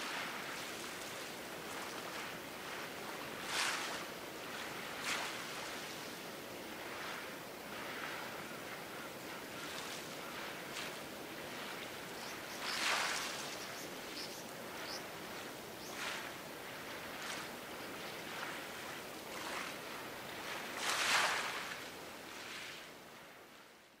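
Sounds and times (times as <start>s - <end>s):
small waves washing ashore: 0.0s - 23.8s
steady outdoor hiss: 0.0s - 24.0s.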